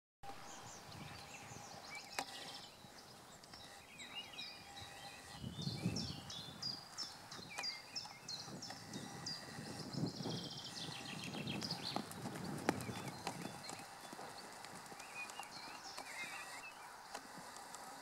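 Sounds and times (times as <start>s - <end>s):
songbirds chirping: 0.3s - 18.0s
hooves trotting on sand: 0.8s - 18.0s.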